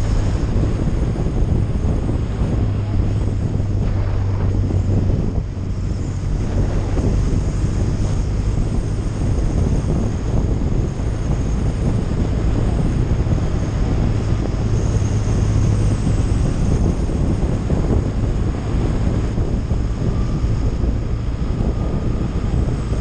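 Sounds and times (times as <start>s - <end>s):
low engine hum: 0.0s - 23.0s
wind rushing over microphone: 0.0s - 23.0s.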